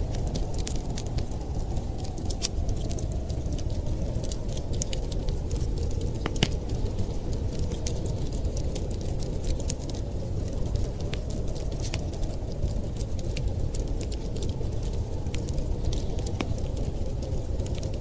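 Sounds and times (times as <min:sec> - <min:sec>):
blizzard wind rumble: 0:00.0 - 0:18.0
wood fire crackling: 0:00.0 - 0:18.0.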